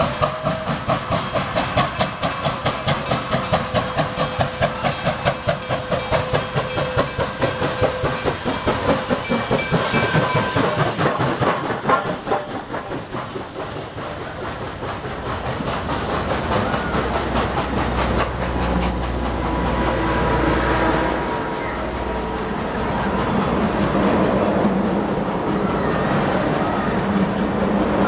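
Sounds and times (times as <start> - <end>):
passenger cars rolling by: 0.0 - 28.0
steam locomotive chuffing: 0.0 - 28.0.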